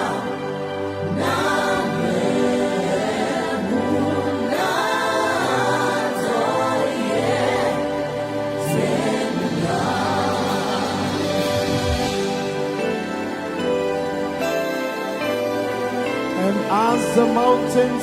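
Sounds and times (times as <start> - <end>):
choir singing gospel song: 0.0 - 18.0
musical accompaniment: 0.0 - 18.0.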